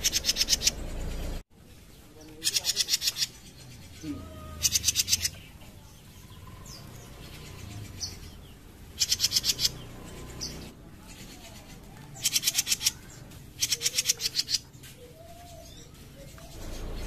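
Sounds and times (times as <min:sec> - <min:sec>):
songbird buzzing rattles: 0:00.0 - 0:01.4, 0:02.3 - 0:14.9.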